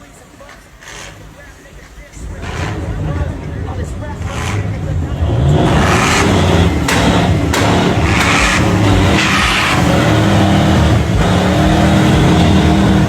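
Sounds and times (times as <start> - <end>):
car engine revving: 0.2 - 13.0.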